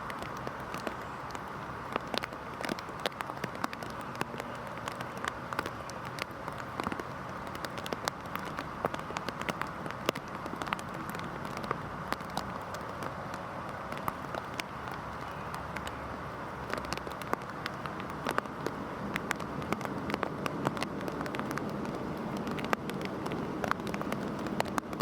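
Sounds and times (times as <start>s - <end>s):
rain hiss: 0.0s - 25.0s
sharp raindrop impacts: 0.0s - 25.0s.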